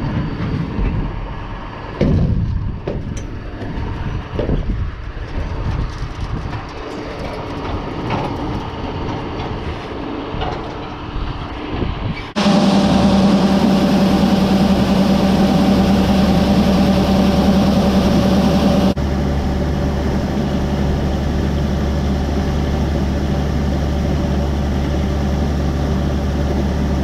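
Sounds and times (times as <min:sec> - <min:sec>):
farm machinery rumbling: 0:00.0 - 0:27.0
steady engine hum: 0:00.0 - 0:27.0.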